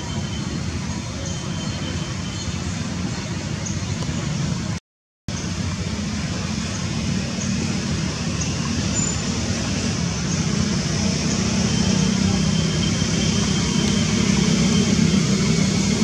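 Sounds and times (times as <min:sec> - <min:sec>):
outdoor background rumble and hiss: 0:00.0 - 0:16.0.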